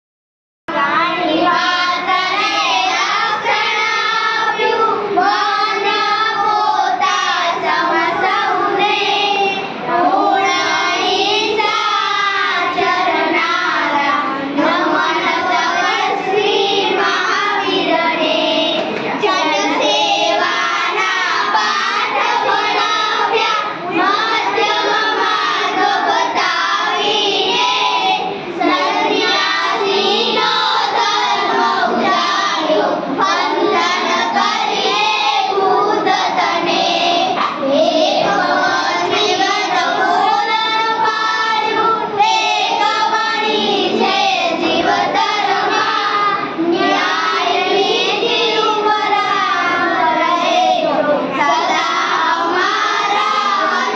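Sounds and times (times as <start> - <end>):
girls singing unaccompanied: 0.7 - 53.9.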